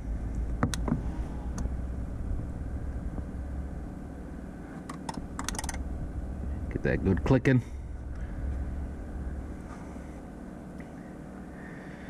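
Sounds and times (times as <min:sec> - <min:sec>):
heater blower fan humming: 0:00.0 - 0:12.0.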